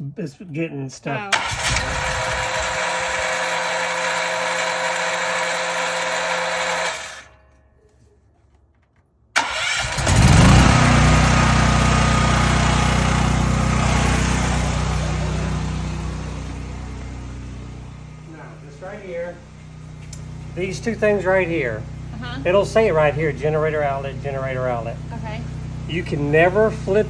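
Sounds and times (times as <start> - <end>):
generator engine running: 1.3 - 7.3, 9.4 - 27.0
electric starter cranking engine: 1.3 - 7.4, 9.4 - 27.0.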